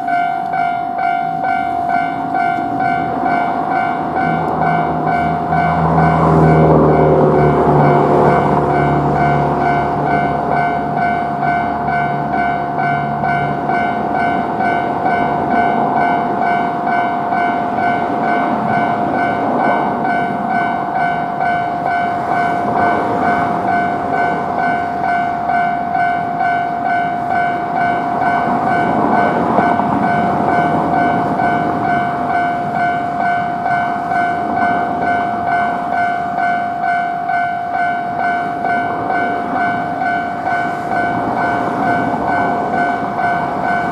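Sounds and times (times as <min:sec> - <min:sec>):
railroad crossing alarm ringing: 0:00.0 - 0:43.9
train rumbling over crossing: 0:00.0 - 0:43.9.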